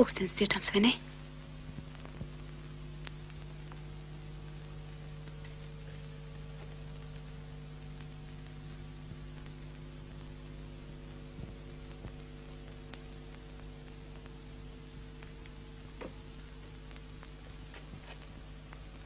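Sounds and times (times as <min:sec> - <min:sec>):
faint hiss: 0:00.0 - 0:19.0
low electrical hum: 0:00.0 - 0:19.0
faint clicks: 0:01.7 - 0:19.0.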